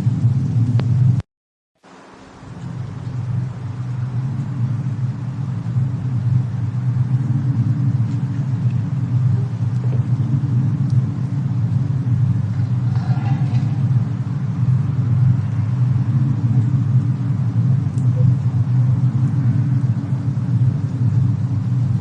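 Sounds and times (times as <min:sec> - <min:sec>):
faint fire crackles: 0:00.0 - 0:01.2, 0:01.8 - 0:22.0
low storm rumble: 0:00.0 - 0:01.2, 0:01.8 - 0:22.0.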